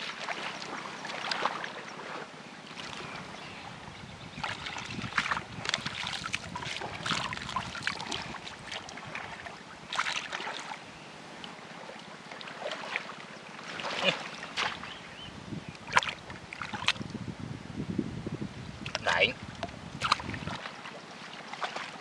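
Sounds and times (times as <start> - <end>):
muddy water splashing: 0.0 - 3.5, 4.3 - 15.1, 15.8 - 17.1, 18.8 - 22.0.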